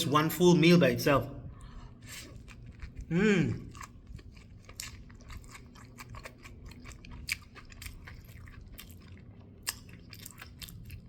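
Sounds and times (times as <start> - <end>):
person chewing crunchy food: 1.9 - 11.0.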